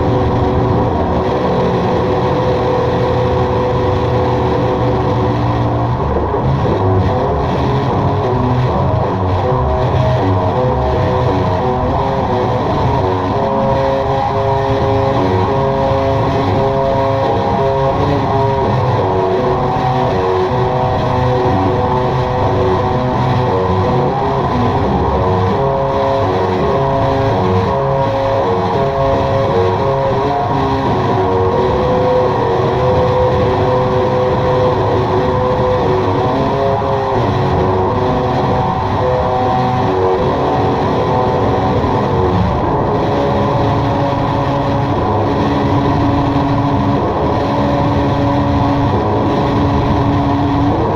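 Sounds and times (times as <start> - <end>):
drone music: 0.0 - 50.9.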